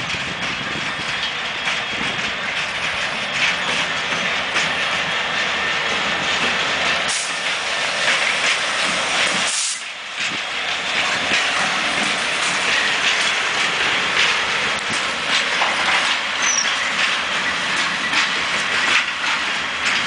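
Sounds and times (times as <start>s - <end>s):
diesel locomotive engine: 0.0s - 20.0s
rail noise: 0.0s - 20.0s.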